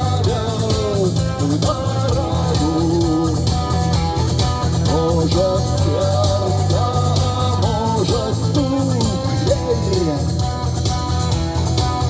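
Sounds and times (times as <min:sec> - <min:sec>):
bass guitar: 0:00.0 - 0:12.0
lead guitar with bent notes: 0:00.0 - 0:12.0
steady drum beat: 0:00.0 - 0:12.0.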